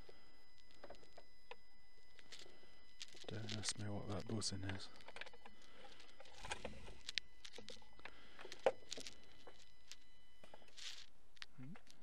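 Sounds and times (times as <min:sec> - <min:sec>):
high-pitched electrical buzz: 0:00.0 - 0:12.0.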